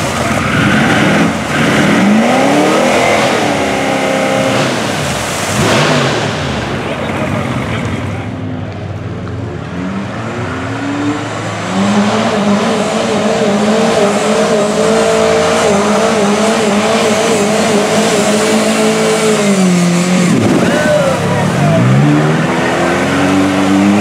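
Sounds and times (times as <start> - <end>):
engine revving: 0.0 - 8.0, 9.6 - 24.0
mud and water splashing: 0.0 - 8.3, 10.0 - 24.0
tires churning through mud: 0.0 - 24.0.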